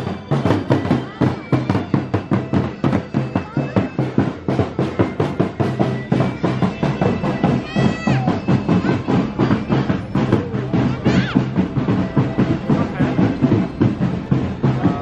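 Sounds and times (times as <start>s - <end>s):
parade drums beating: 0.0s - 15.0s.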